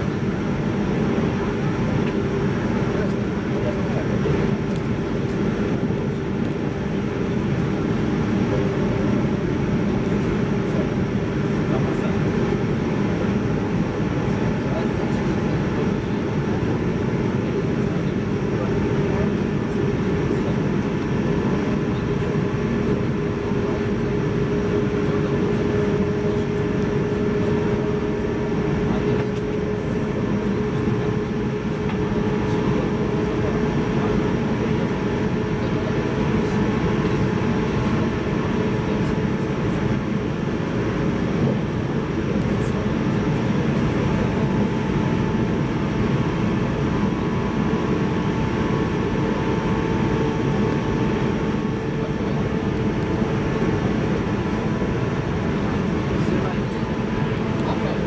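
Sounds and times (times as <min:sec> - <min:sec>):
constant droning tone: 0:00.0 - 0:58.0.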